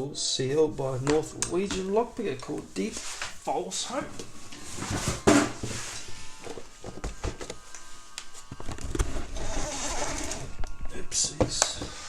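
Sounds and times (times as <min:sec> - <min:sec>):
rustling: 0:00.9 - 0:12.0.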